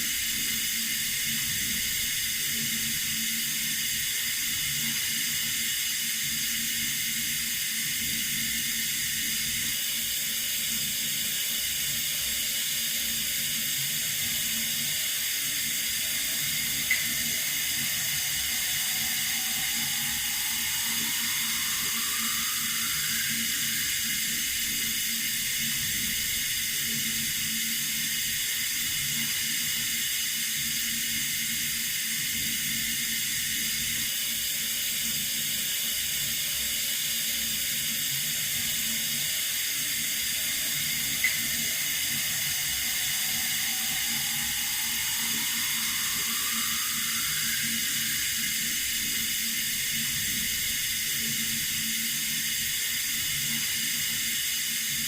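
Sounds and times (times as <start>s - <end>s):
water running from tap: 0.3s - 33.9s, 37.0s - 55.0s.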